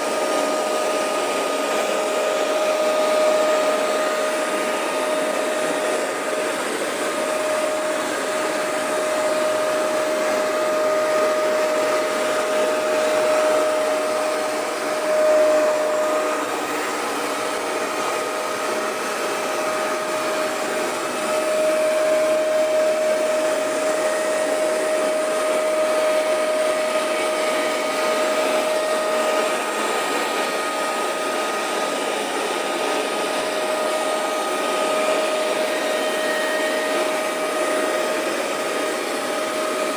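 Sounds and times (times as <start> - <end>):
rushing airflow: 0.0 - 39.8
carpet cleaner motor whining: 0.0 - 39.9.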